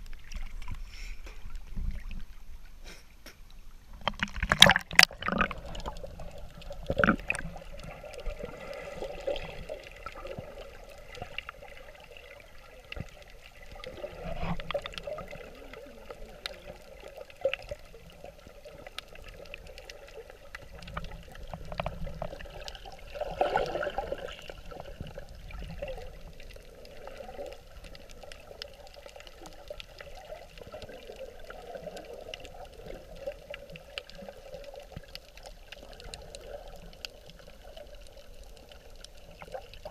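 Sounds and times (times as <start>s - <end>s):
clicks and crackles: 0.0s - 39.9s
muffled underwater sloshing: 0.0s - 39.9s.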